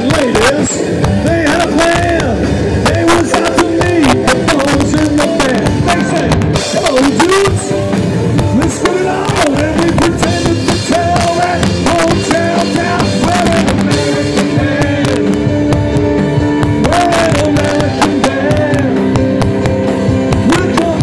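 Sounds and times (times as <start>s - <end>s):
man singing: 0.0s - 7.8s, 8.4s - 21.0s
drum hits: 0.0s - 21.0s
live band playing: 0.0s - 21.0s.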